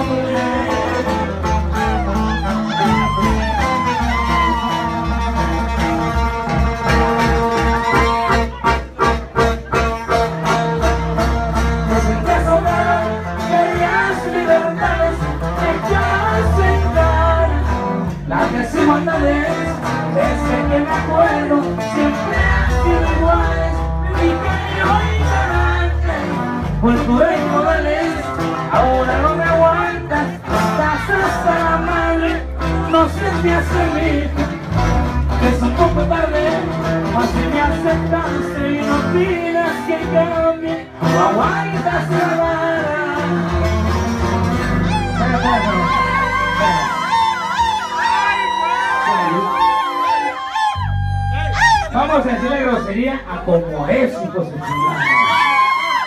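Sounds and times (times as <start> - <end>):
electric bass: 0.0 - 55.8
live band music: 0.0 - 56.0.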